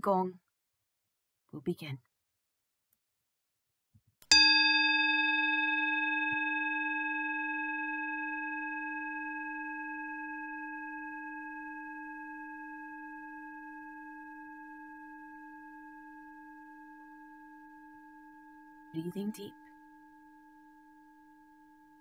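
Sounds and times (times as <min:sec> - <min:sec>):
singing bowl ringing: 0:04.3 - 0:22.0.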